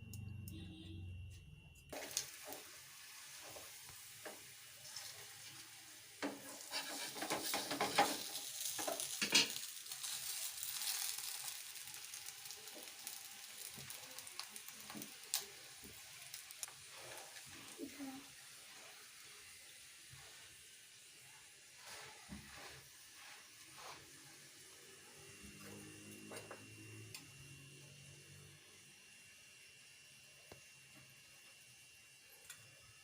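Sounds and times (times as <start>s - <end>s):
food sizzling in a pan: 1.9s - 33.0s.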